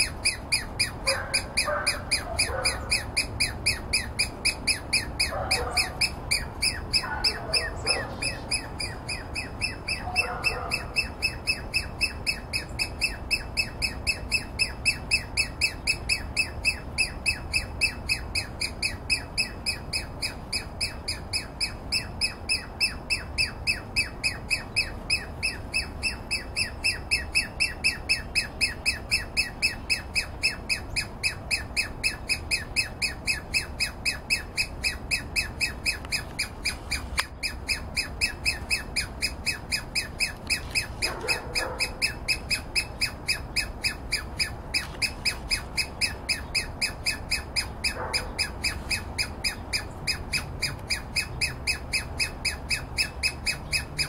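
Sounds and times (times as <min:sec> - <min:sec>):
squirrel alarm call: 0:00.0 - 0:54.0.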